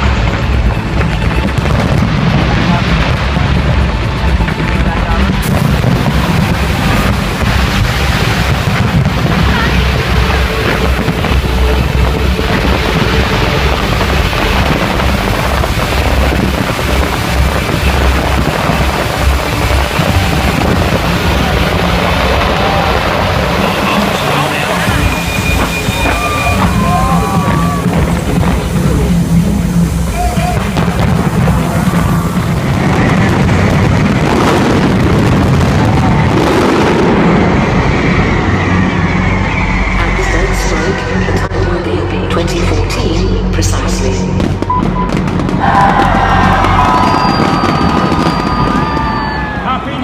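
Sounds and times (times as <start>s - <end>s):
fireworks barrage rumbling: 0.0s - 50.0s
fireworks crackling: 0.0s - 50.0s.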